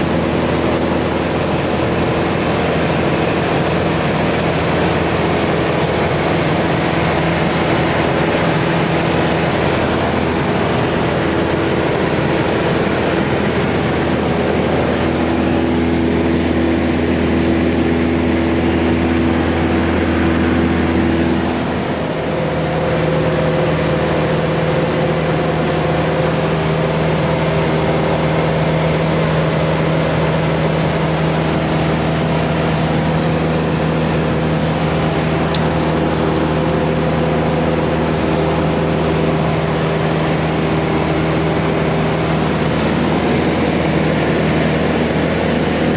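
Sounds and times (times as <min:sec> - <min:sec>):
aircraft engine and propeller drone: 0:00.0 - 0:45.9.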